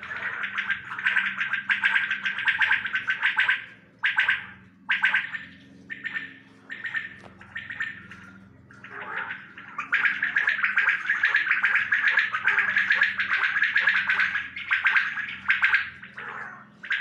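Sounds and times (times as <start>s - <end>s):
quails calling: 0.0s - 17.0s.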